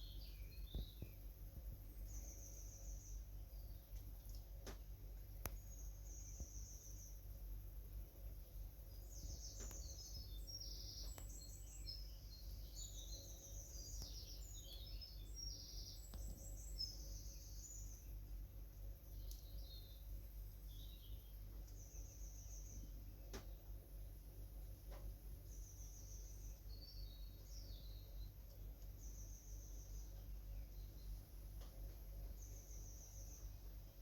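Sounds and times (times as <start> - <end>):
faint low hum: 0.0 - 34.0
songbirds chirping and trilling: 0.0 - 34.0.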